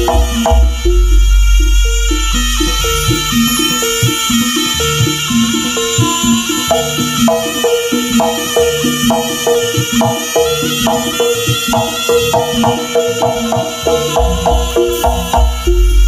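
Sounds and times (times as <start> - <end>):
hand drumming: 0.0 - 16.0
heavy bass drum: 0.0 - 16.0
metal percussion pattern: 0.0 - 16.0.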